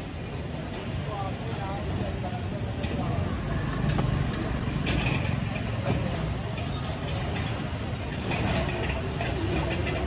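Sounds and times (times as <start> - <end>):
faint indistinct voices: 0.0 - 10.0
traffic engine rumble: 0.0 - 10.0.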